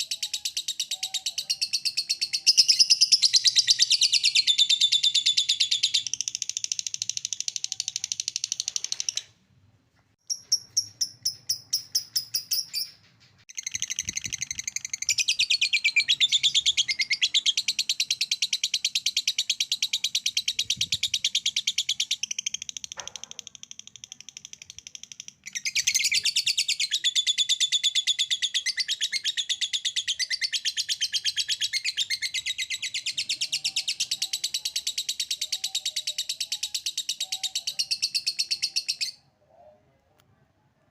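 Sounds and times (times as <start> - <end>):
bird chirps: 0.0 - 9.4, 10.2 - 39.4.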